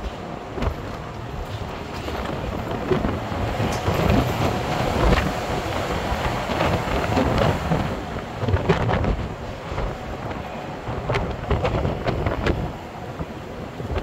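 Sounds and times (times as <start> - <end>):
bus engine and road rumble: 0.0 - 14.0
wind buffeting microphone: 0.0 - 14.0.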